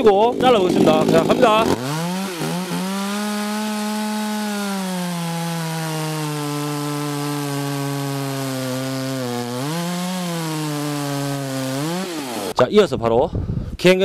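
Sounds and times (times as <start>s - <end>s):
chainsaw cutting log: 0.0s - 12.6s.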